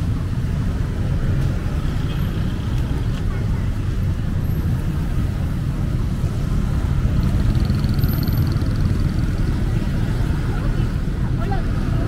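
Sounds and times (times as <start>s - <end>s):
cars and motorcycles passing: 0.0s - 12.0s.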